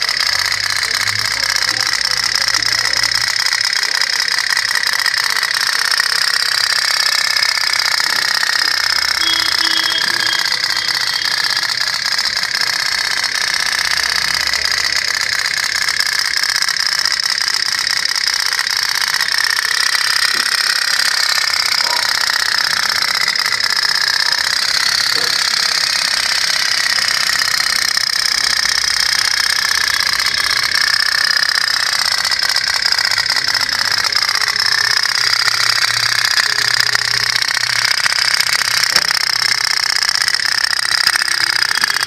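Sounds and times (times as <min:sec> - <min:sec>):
toy steam boat popping: 0:00.0 - 0:42.0.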